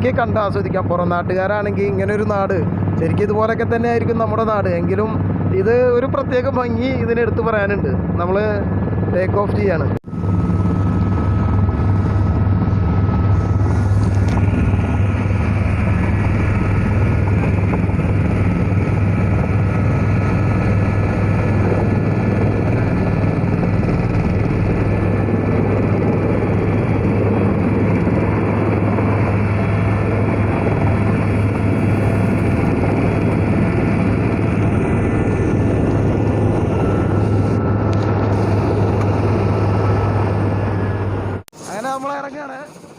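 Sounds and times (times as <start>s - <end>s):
helicopter rotor and engine drone: 0.0s - 42.9s.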